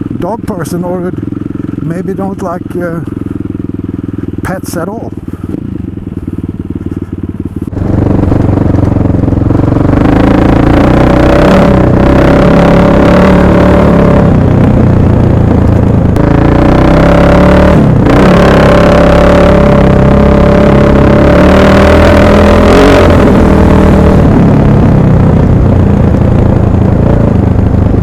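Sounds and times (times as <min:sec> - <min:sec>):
motorcycle engine pulling hard: 0:00.0 - 0:28.0.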